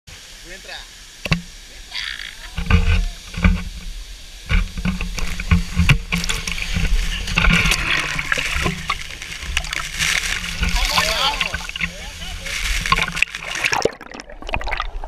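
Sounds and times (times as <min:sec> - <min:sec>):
water splashing: 0:01.1 - 0:15.0.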